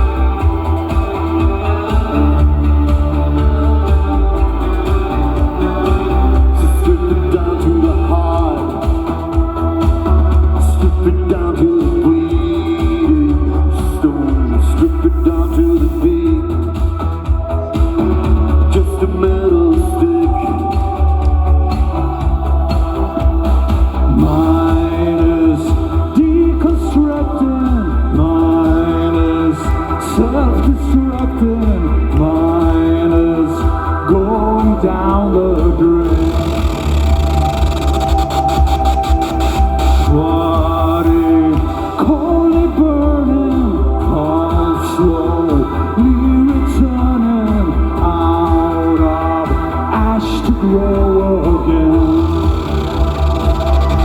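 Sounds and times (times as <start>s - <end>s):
rock song with bass and guitar: 0.0s - 54.0s
sliding chant-like melody: 0.0s - 54.0s.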